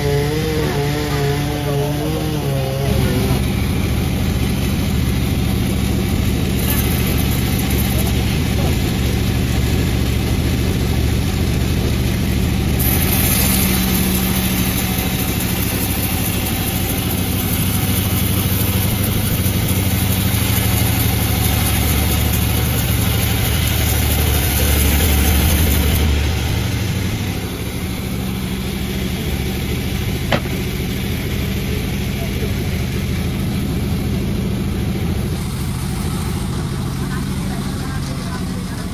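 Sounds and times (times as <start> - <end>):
sawing machine engine running: 0.0 - 38.9.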